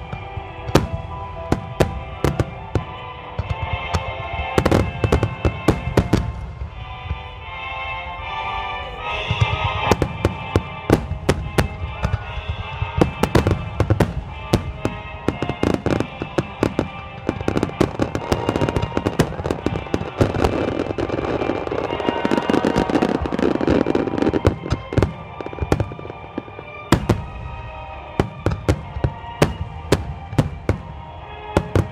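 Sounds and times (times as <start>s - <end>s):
fireworks bursting: 0.0s - 7.4s, 8.9s - 31.9s
fireworks crackling: 0.0s - 7.5s, 8.2s - 31.9s
music playing: 0.0s - 31.9s.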